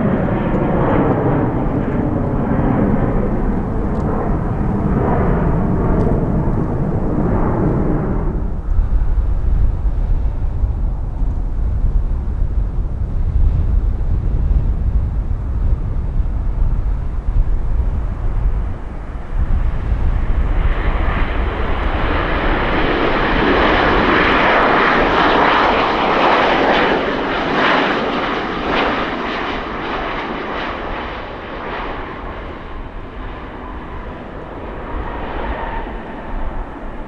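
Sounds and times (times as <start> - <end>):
jet airliner engines passing: 0.0 - 37.0.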